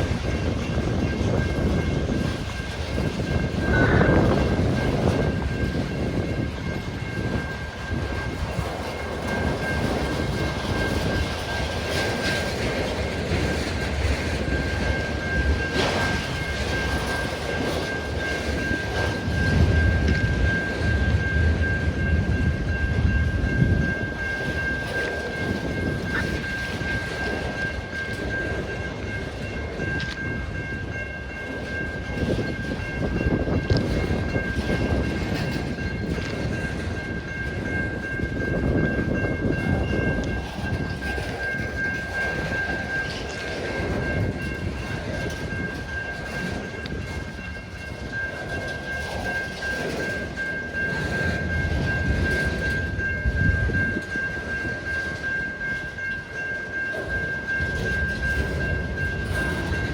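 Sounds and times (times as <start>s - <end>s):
freight train cars rumbling: 0.0s - 59.9s
high-pitched ringing tone: 0.0s - 59.9s.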